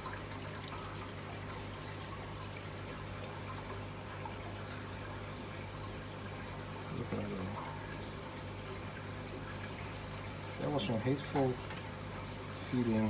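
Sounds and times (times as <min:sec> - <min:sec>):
low pump hum: 0:00.0 - 0:13.0
running water: 0:00.0 - 0:13.0.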